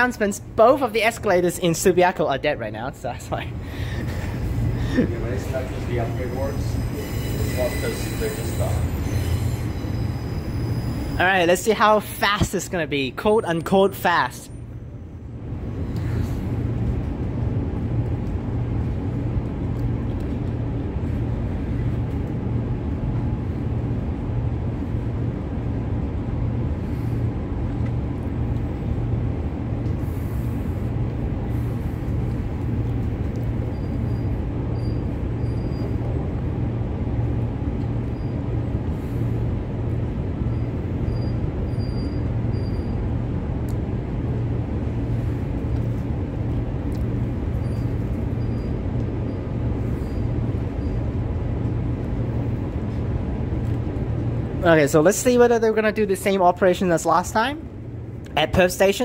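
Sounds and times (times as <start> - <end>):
train wheels rumbling on rail: 3.0 - 54.7.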